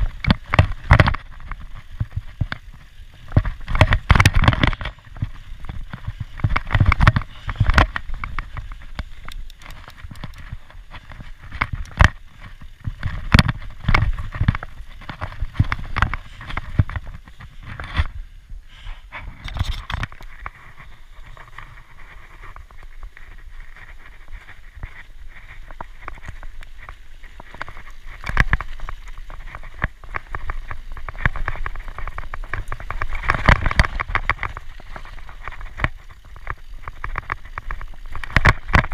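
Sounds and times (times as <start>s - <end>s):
bike knocking and rattling: 0.0s - 38.9s
bike tyres on dirt: 0.0s - 38.9s.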